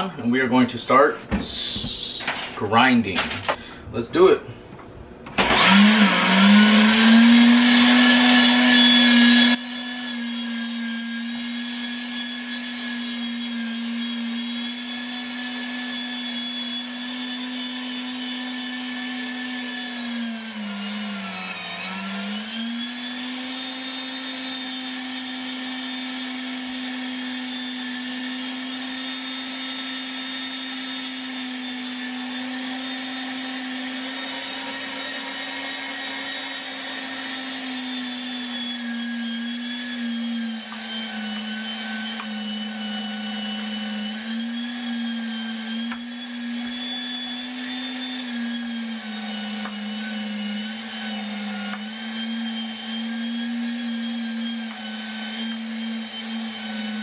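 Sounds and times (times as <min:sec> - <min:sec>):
electric meat grinder running: 0:05.3 - 0:57.0.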